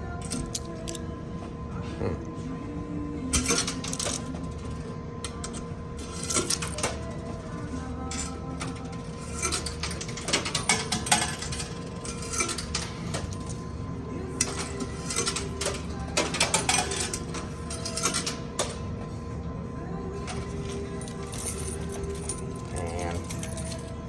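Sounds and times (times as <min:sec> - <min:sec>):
coins clicking and clinking: 0:00.2 - 0:01.1, 0:03.3 - 0:13.8, 0:14.4 - 0:18.9, 0:20.2 - 0:24.0.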